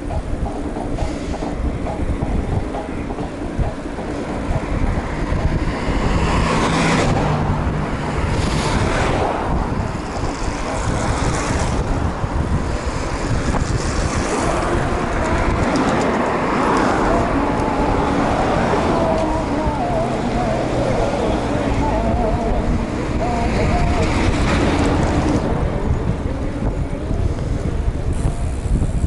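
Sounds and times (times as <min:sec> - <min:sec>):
road traffic noise: 0:00.0 - 0:29.0
vehicles passing: 0:00.0 - 0:29.0.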